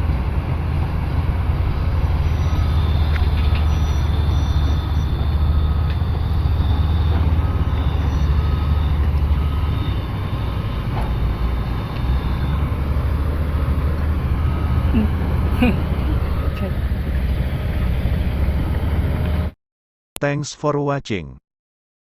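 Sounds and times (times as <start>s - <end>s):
diesel engine rumbling: 0.0s - 19.6s.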